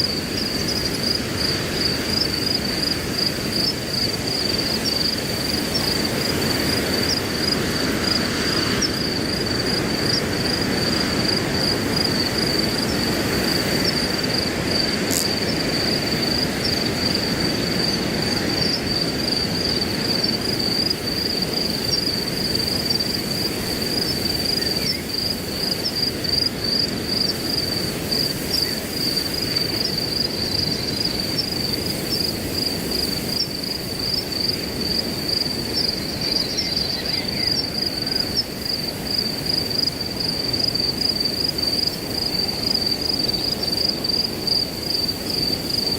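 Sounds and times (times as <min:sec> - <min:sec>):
crickets chirping: 0:00.0 - 0:45.9
wind through grass: 0:00.0 - 0:45.9.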